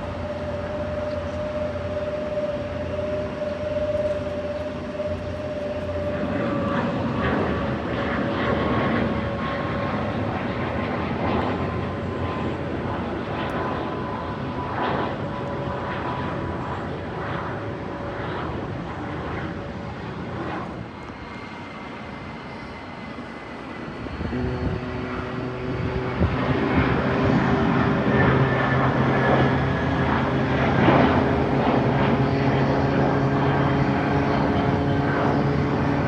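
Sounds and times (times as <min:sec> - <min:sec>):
jet engines passing: 0:00.0 - 0:36.0.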